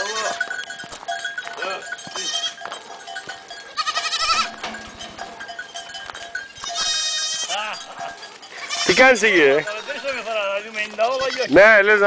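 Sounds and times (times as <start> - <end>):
goats bleating: 0.0 - 0.8, 1.5 - 2.8, 3.5 - 6.0, 6.6 - 12.0
goat bells ringing: 0.0 - 12.0.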